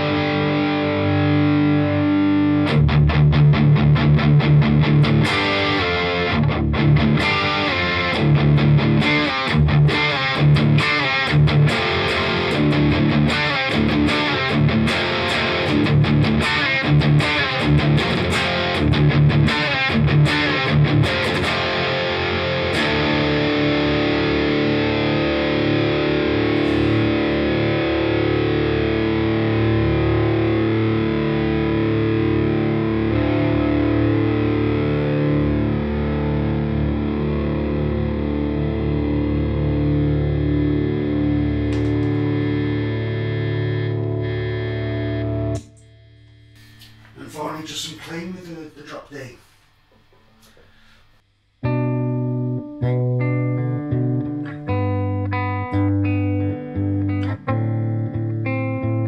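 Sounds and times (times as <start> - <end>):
distorted electric guitar riffing: 0.0 - 59.0.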